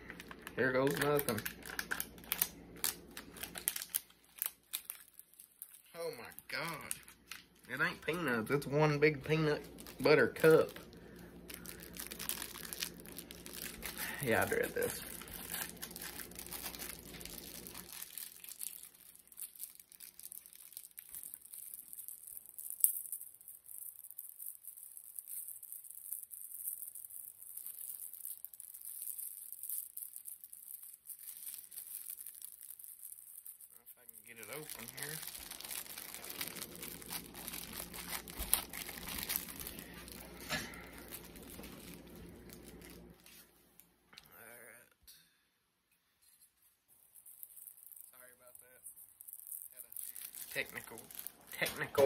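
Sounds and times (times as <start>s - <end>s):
wrapper crinkling and tearing: 0.0s - 43.4s, 47.0s - 52.0s.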